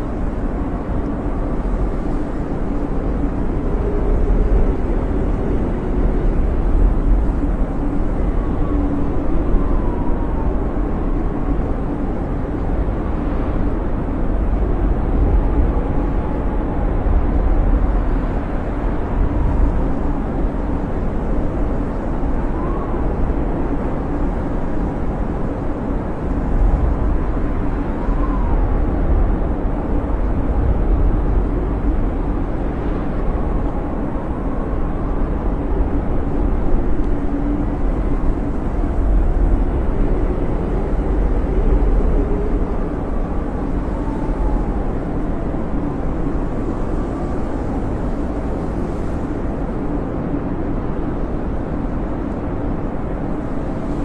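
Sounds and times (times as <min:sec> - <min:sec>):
faint wind whistles: 0:00.0 - 0:54.0
strong wind with deep rumble: 0:00.0 - 0:54.0.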